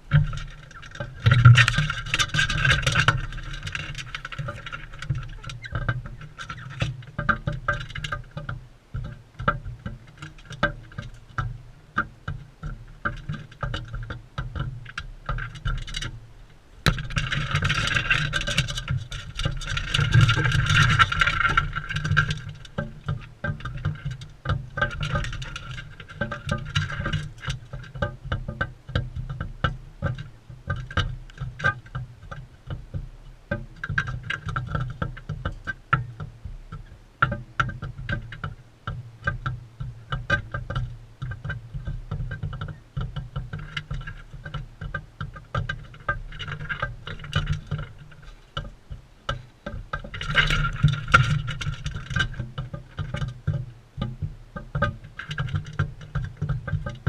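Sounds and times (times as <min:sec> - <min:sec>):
rapid clicking and tapping: 0:00.0 - 0:16.2, 0:16.8 - 0:57.0.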